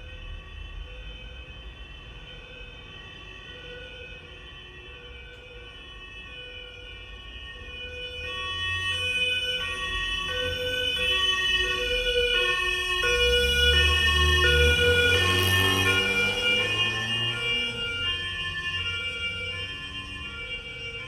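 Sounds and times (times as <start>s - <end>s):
two-tone ambulance siren: 0.0s - 21.0s.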